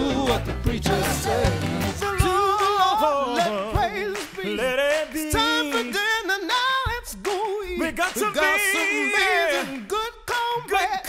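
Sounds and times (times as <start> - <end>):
group singing a gospel chorus: 0.0 - 11.0.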